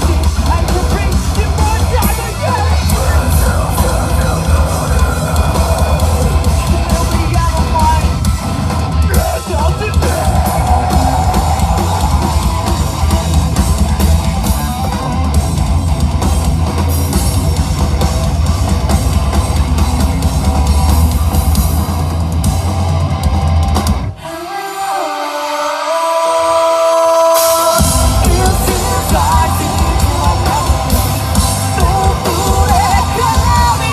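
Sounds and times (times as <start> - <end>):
pounding drum kit: 0.0 - 24.2, 27.3 - 33.9
distorted electric guitars: 0.0 - 33.9
rock band playing: 0.0 - 33.9.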